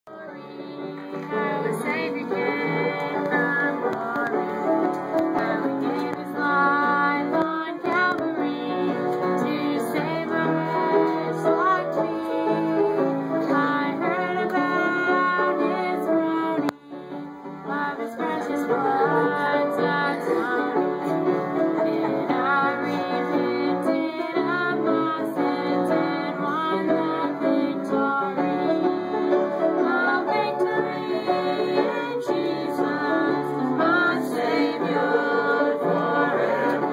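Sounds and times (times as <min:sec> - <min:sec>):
group of people singing: 0:00.1 - 0:36.9.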